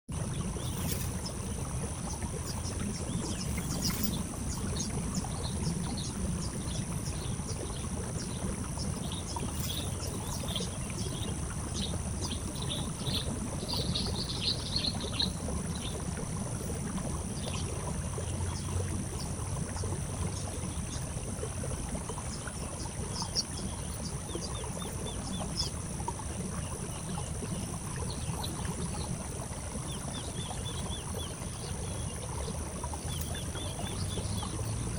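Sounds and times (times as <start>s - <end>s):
constant low rumble: 0.1s - 34.9s
small birds chirping: 0.2s - 19.2s, 22.2s - 34.9s
high insect drone: 0.2s - 34.9s.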